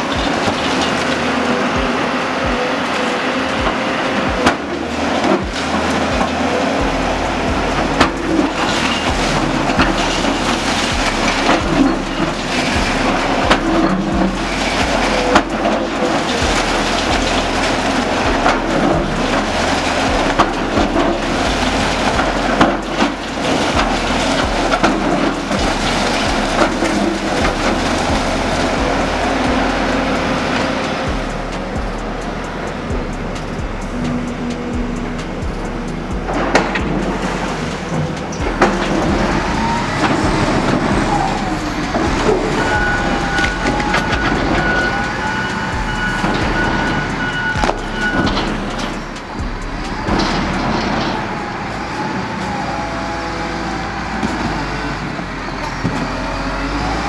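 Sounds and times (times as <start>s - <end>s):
concrete cracking and smashing: 0.0s - 54.9s
debris crashing down: 0.0s - 57.0s
excavator engine hum: 0.0s - 57.0s.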